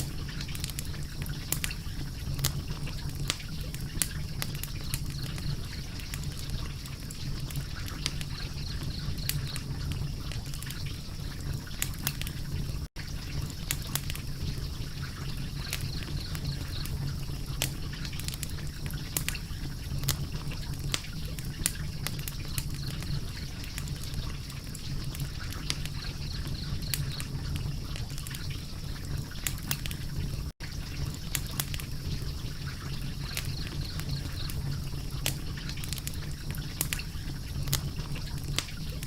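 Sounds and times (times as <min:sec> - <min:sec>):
fire crackling and popping: 0:00.0 - 0:39.0
low rushing fire: 0:00.0 - 0:39.0.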